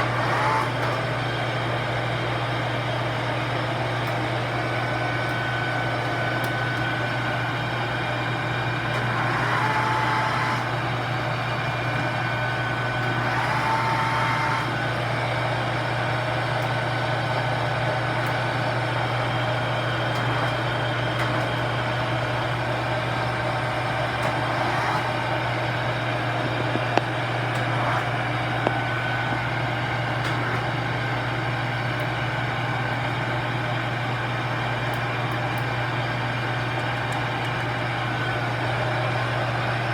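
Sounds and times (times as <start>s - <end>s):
low mechanical drone: 0.0s - 39.9s.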